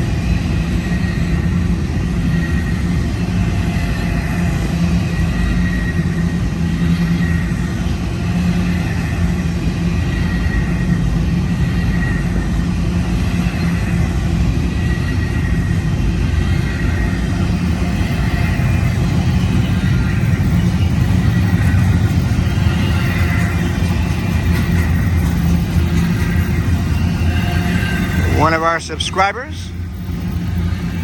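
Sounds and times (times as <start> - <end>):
freight train rolling on rails: 0.0 - 31.0.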